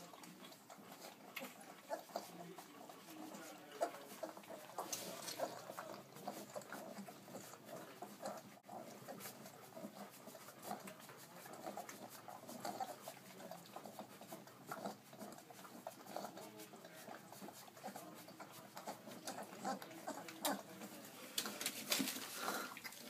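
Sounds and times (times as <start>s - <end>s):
puppies whimpering: 0.0s - 21.2s
puppies suckling: 0.0s - 23.0s.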